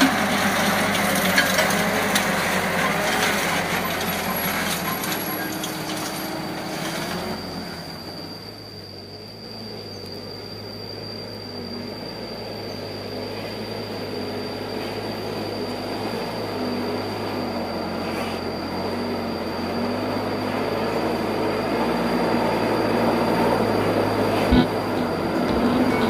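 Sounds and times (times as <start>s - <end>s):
diesel truck engine running: 0.0s - 8.7s, 11.9s - 26.0s
high-pitched whine: 0.0s - 26.0s.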